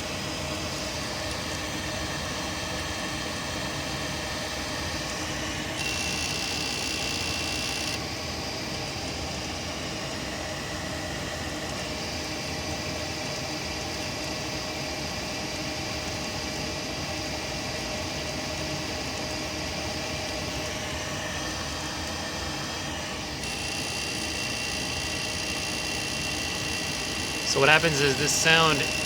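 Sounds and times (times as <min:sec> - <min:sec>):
gas furnace humming: 0:00.0 - 0:29.0.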